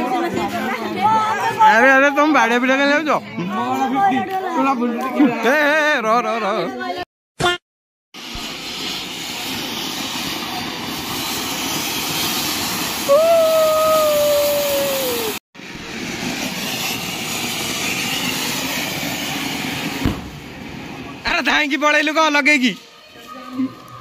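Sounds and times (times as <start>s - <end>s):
firework fountain hissing: 0.0s - 6.0s, 8.2s - 24.0s.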